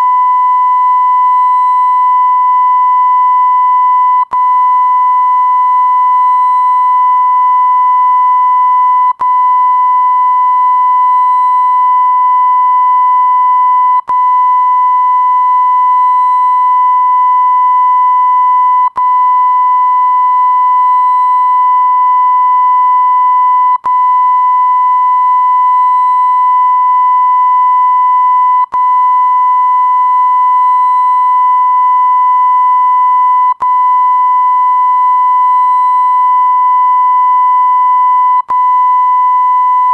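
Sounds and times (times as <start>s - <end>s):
high-pitched censor beep: 0.0s - 39.9s.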